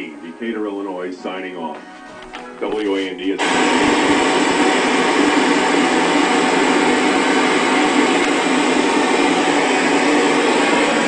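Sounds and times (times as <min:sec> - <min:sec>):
television static hissing: 0:00.0 - 0:11.0.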